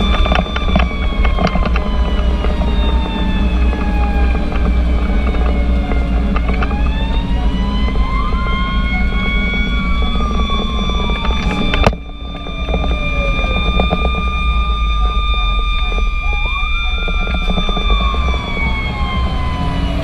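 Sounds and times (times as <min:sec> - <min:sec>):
emergency siren wailing: 0:00.0 - 0:20.0
fire engine rumble: 0:00.0 - 0:20.0.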